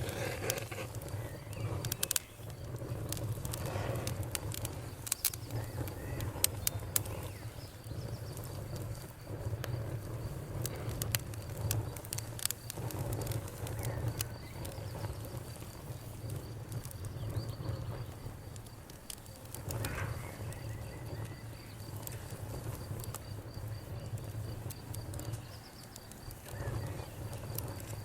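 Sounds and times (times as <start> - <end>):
bonfire crackling and popping: 0.0 - 28.0
crickets trilling: 0.0 - 28.0.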